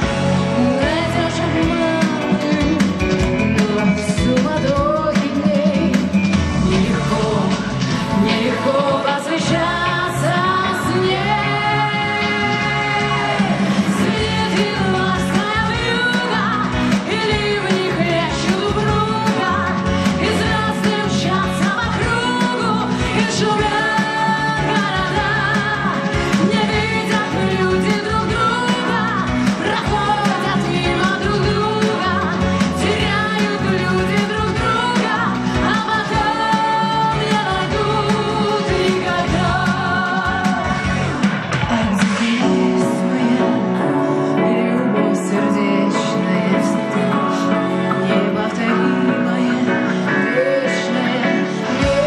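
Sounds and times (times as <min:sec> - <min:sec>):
woman singing: 0:00.0 - 0:41.0, 0:41.6 - 0:52.0
backing music: 0:00.0 - 0:52.0.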